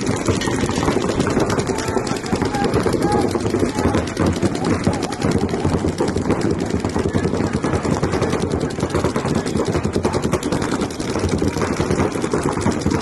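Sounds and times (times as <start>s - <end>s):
paintball markers firing rapidly: 0.0s - 13.0s.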